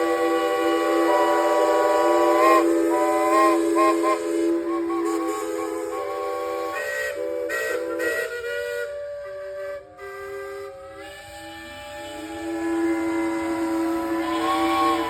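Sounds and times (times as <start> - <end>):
steam engine whistles blowing: 0.0 - 15.0.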